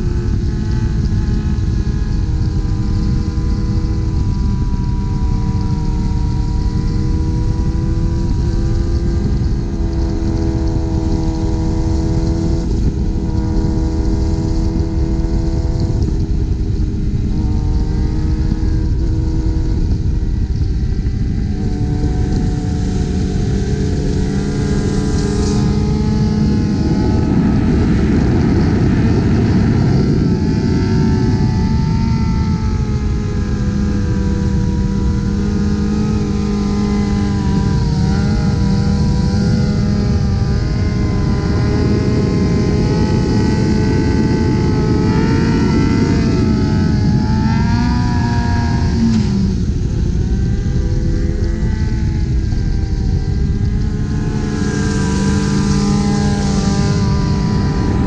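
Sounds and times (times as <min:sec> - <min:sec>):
heavy wind: 0:00.0 - 0:58.0
motorcycle engines running: 0:00.0 - 0:58.0
road rumble: 0:00.0 - 0:58.0.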